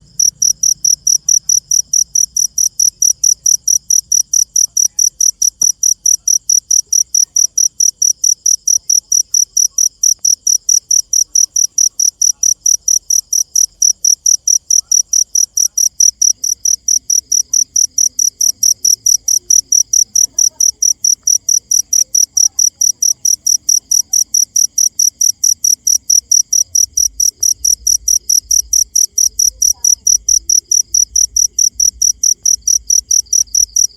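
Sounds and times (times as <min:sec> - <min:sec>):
cricket chirping: 0:00.0 - 0:33.9.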